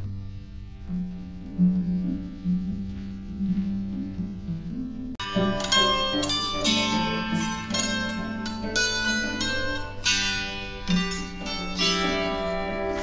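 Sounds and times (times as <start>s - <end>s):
wooden harp plucked melody: 0.8s - 13.0s.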